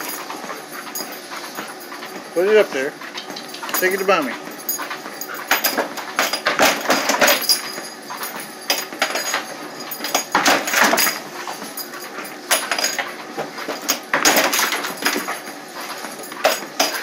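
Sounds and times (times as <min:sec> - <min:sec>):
treadmill running: 0:00.0 - 0:17.0.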